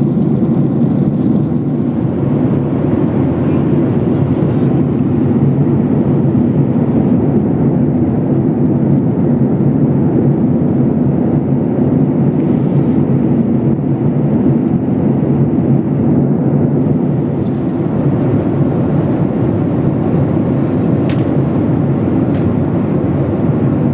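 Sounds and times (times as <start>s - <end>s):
jet engine cabin drone: 0.0s - 23.9s.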